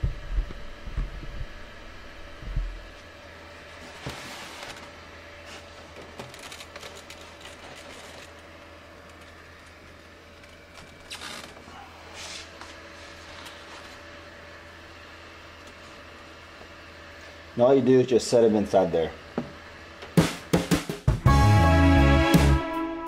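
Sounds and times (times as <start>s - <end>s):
incubator humming: 0.0s - 23.0s.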